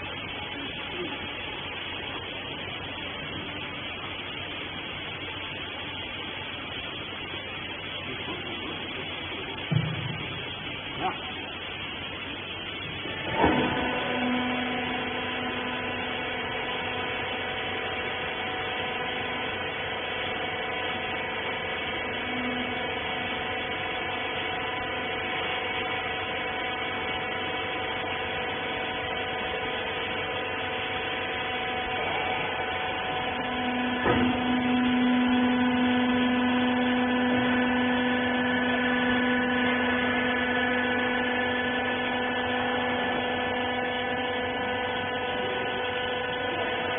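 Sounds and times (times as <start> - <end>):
baler machine humming: 0.0 - 46.9.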